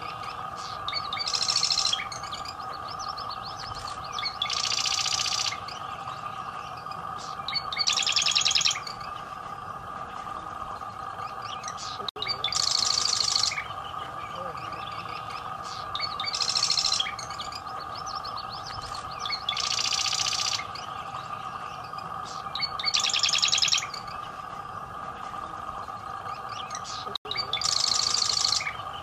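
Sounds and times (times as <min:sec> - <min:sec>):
bird rattling trills: 0:00.0 - 0:29.0
steady hum: 0:00.0 - 0:29.0.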